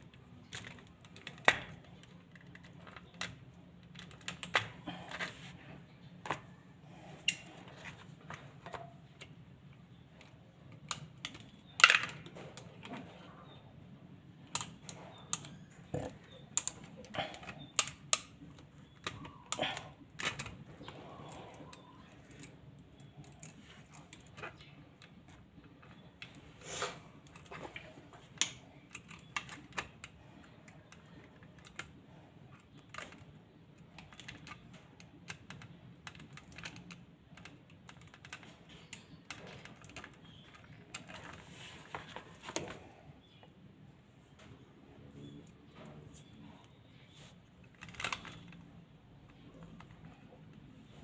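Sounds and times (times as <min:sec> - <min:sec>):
pliers clicking and scraping wire: 0:00.0 - 0:05.5, 0:06.2 - 0:13.6, 0:14.3 - 0:41.4, 0:45.2 - 0:51.0.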